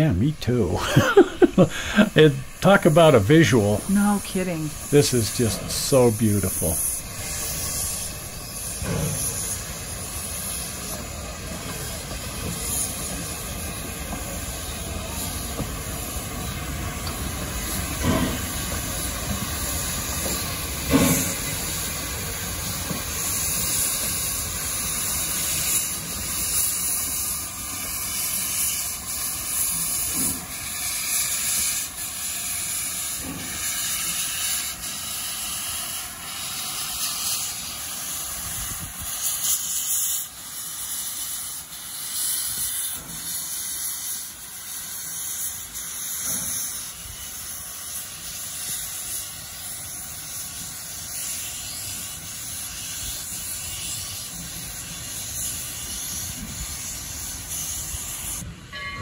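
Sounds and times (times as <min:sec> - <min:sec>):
steam hissing: 0:00.0 - 0:58.8.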